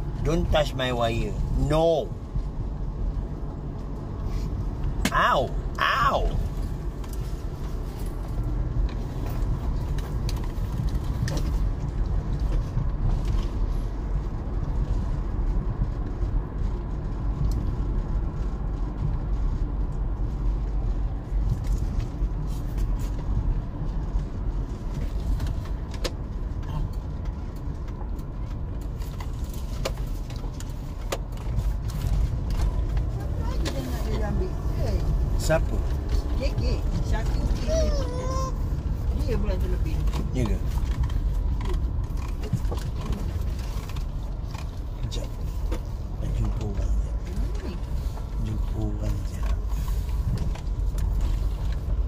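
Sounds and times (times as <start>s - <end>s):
road and engine rumble in car: 0.0s - 52.0s.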